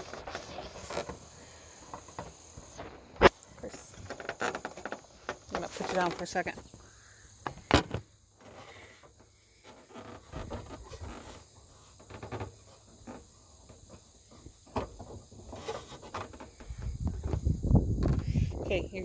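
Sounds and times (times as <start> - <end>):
hand rubbing and scraping plastic: 0.0 - 6.8, 7.4 - 19.0.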